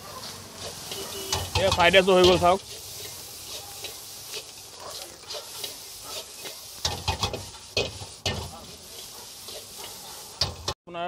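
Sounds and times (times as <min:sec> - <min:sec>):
rice sizzling in a wok: 0:00.0 - 0:10.8
spatula scraping a wok: 0:00.0 - 0:10.8.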